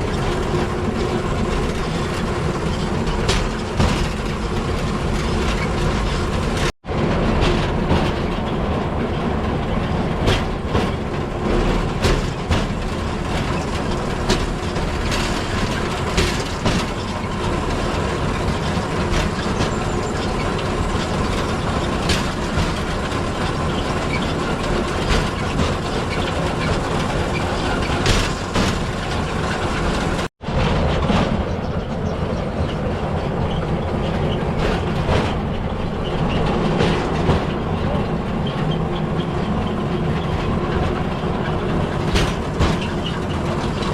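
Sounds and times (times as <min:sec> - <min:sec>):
steel wheels rumbling on rails: 0:00.0 - 0:43.9
wheels clacking over rail joints: 0:00.0 - 0:43.9.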